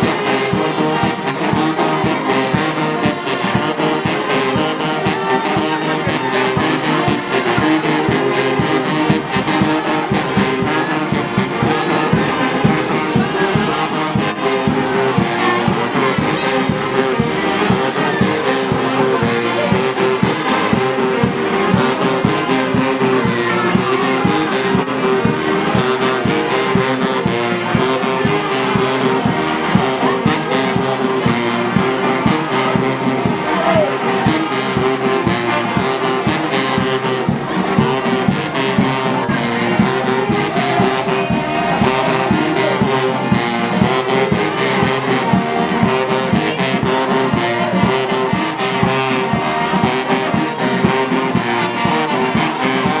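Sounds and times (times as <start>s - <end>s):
brass band music: 0.0s - 53.0s.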